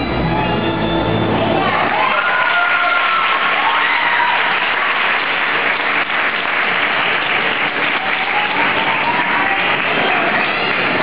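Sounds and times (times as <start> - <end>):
spectators clapping: 1.6 - 11.0.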